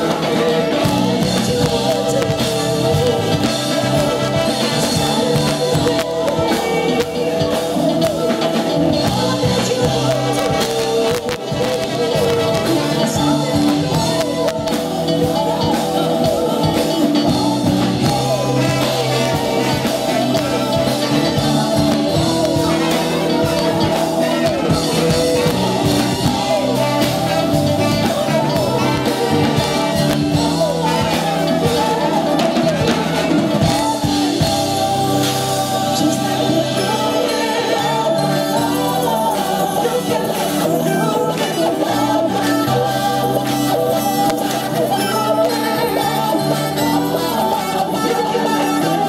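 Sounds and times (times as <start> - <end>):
brass section: 0.0 - 49.0
electric guitar: 0.0 - 49.0
lead singer: 0.0 - 49.0.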